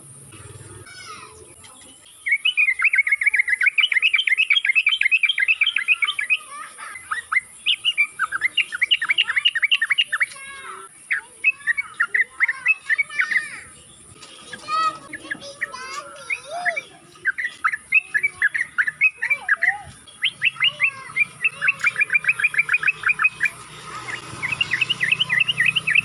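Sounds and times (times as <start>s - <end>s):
bulbul singing jumbled notes: 0.0s - 26.0s.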